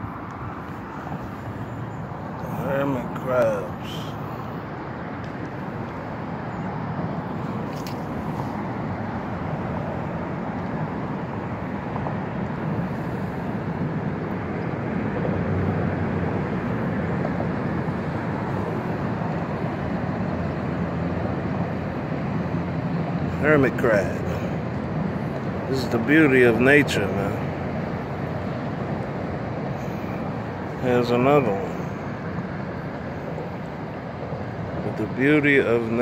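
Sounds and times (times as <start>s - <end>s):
steady rushing noise: 0.0s - 36.0s.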